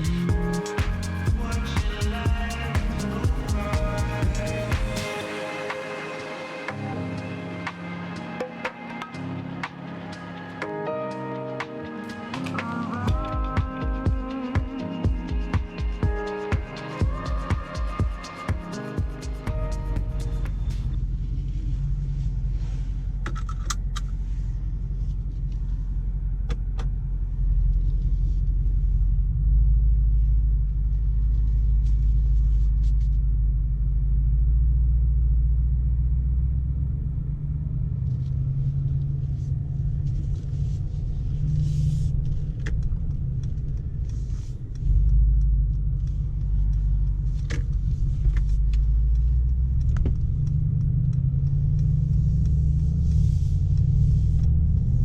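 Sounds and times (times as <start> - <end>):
car engine and road noise rumble: 0.0 - 10.6, 15.1 - 55.0.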